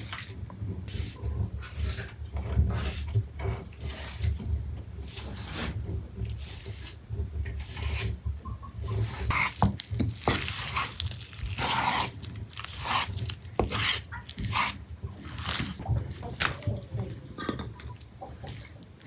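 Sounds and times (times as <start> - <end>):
rubbing and scraping: 0.0 - 19.0.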